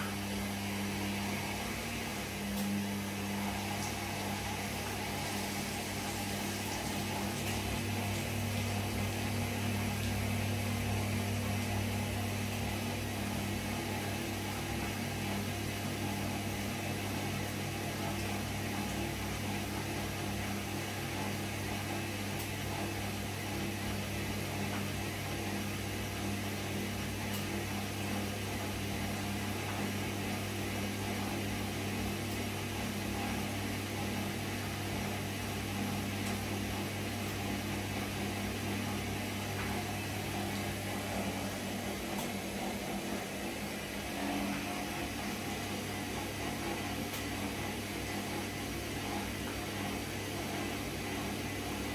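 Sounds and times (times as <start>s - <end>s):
washing machine humming: 0.0s - 51.9s.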